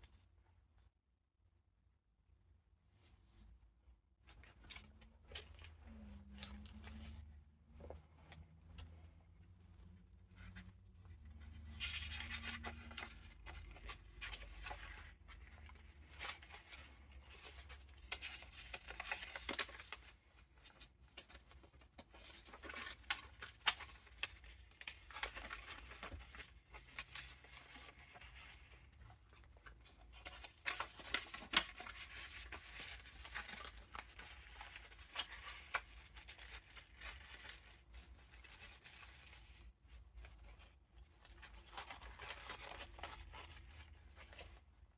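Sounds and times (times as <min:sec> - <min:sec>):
paper pages rustling and crinkling: 0:04.2 - 0:44.9.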